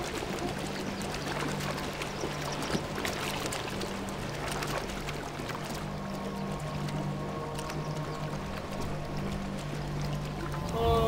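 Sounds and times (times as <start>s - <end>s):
hooves splashing through muddy water: 0.0s - 11.0s
sustained low music notes: 0.0s - 11.0s.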